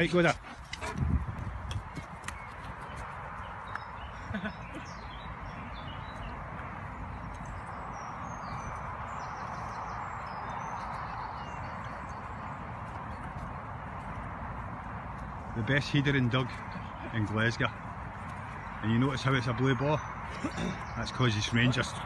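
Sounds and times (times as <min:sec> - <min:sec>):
outdoor background rush: 0:00.0 - 0:22.0
small birds chirping: 0:00.0 - 0:22.0.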